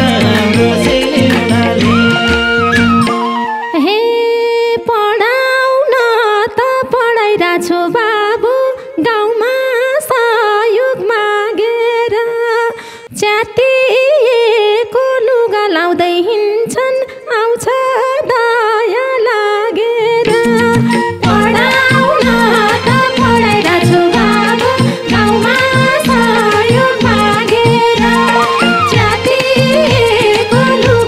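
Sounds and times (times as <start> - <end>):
woman singing folk melody: 3.7 - 31.0.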